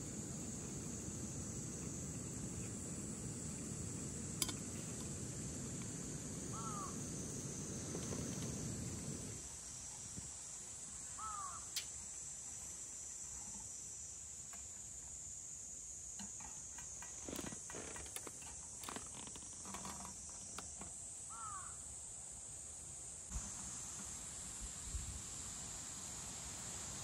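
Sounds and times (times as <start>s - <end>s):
steady high hiss: 0.0s - 27.0s.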